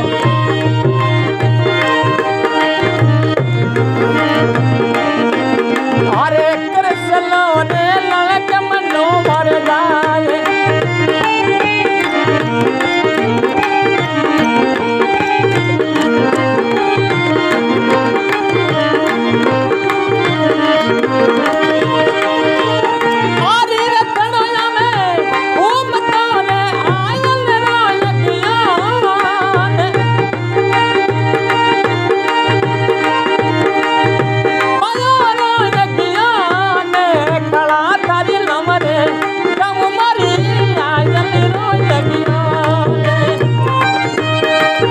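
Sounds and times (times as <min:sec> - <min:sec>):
hand drum rhythm: 0:00.0 - 0:44.9
held melodic notes: 0:00.0 - 0:44.9
wavering lead melody: 0:00.0 - 0:44.9.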